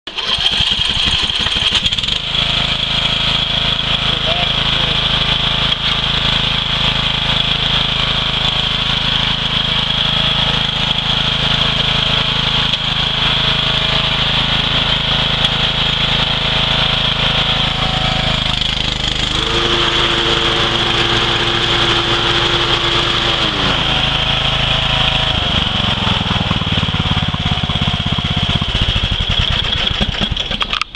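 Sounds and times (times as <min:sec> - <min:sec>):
lawn tractor engine running: 0:00.1 - 0:30.9.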